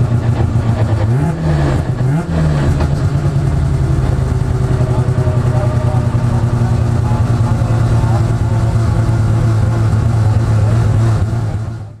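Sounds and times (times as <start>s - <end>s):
race car engine running: 0.0s - 12.0s
road noise: 0.0s - 12.0s.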